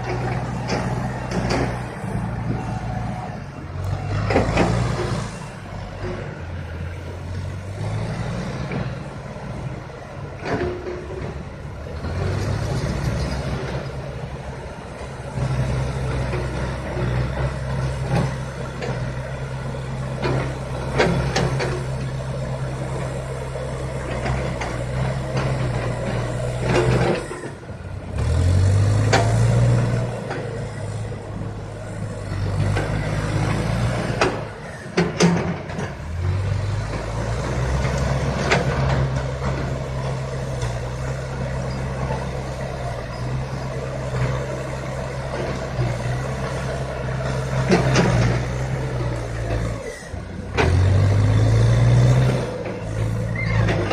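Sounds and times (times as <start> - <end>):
backhoe diesel engine working: 0.0 - 53.9.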